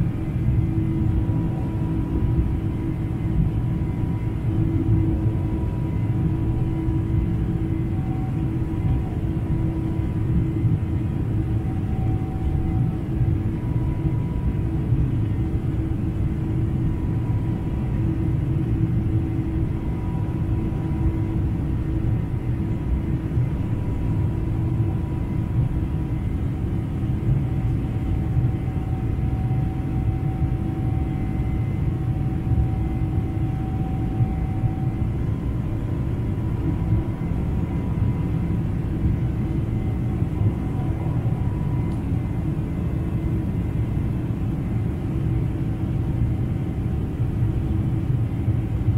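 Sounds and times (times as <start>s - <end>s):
airplane cabin engine rumble: 0.0s - 48.9s
faint steady tones humming: 0.0s - 48.9s.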